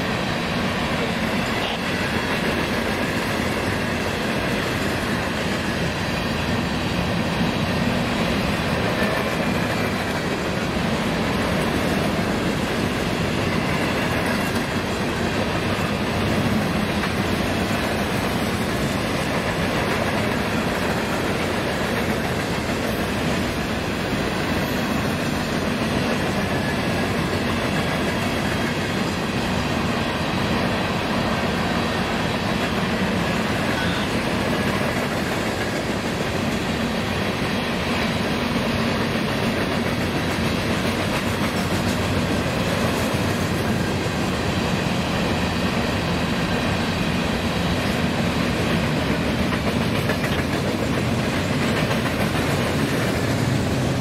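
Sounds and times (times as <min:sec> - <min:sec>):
train rumble and rattle: 0:00.0 - 0:54.0.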